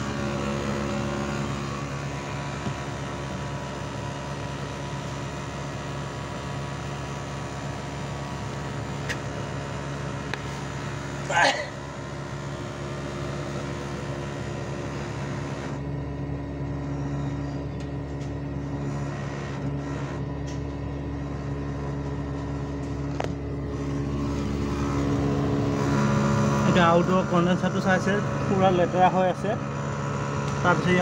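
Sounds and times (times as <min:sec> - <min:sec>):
air conditioner hum: 0:00.0 - 0:18.9, 0:19.6 - 0:31.0.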